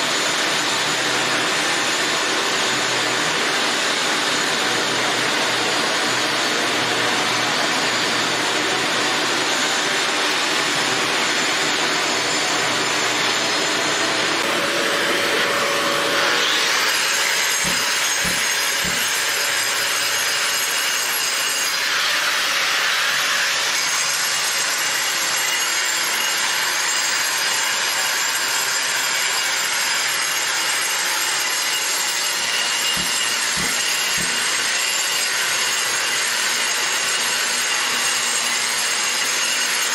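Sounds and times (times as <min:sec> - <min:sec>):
angle grinder grinding filler: 0:00.0 - 0:39.9.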